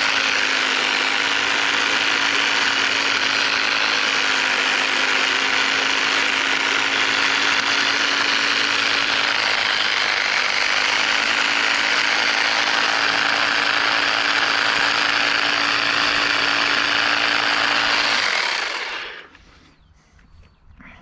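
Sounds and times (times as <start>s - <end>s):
hedge trimmer buzzing: 0.0s - 19.4s.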